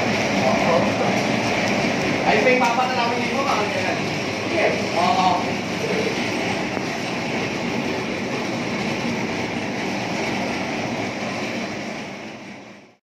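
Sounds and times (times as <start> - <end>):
machinery rumble and hiss: 0.0 - 13.0.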